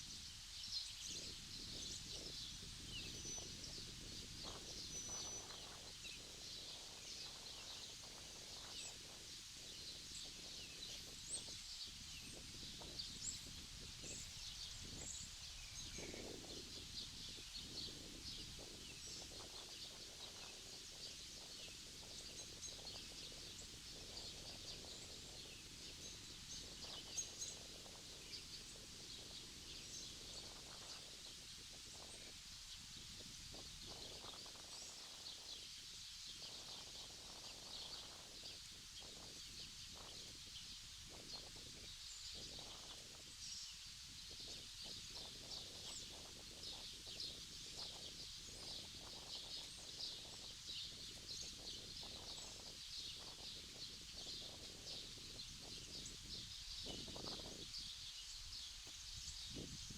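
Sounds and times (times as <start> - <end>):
small birds chirping: 0.1 - 59.9.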